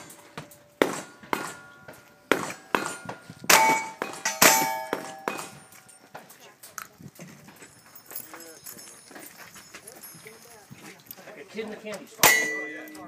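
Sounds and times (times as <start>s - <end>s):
steel targets clanging and ringing: 0.0s - 6.5s, 7.5s - 10.7s, 12.2s - 13.0s.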